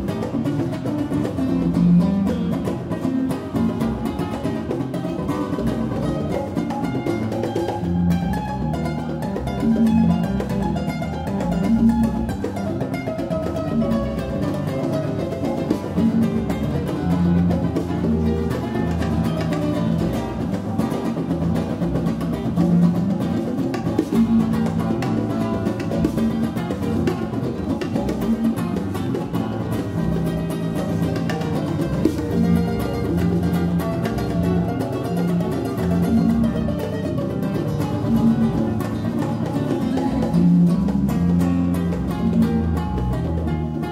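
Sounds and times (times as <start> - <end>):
acoustic guitar: 0.0 - 43.9
jazz band playing: 0.0 - 43.9.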